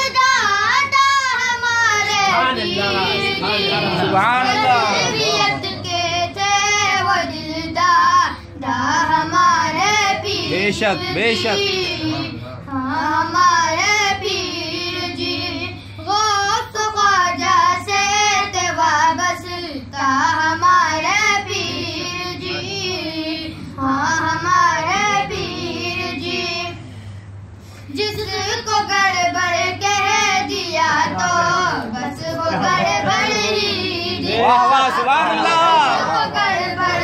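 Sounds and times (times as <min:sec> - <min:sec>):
young voice singing unaccompanied: 0:00.0 - 0:26.9, 0:27.9 - 0:34.6, 0:35.3 - 0:37.0
faint steady hum: 0:00.0 - 0:37.0.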